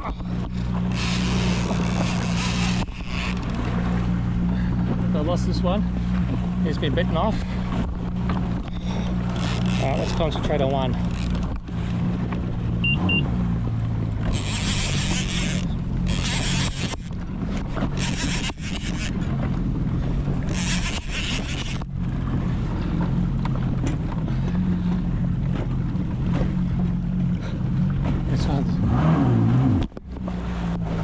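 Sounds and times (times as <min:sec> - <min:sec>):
jet ski engine idling: 0:00.0 - 0:28.8.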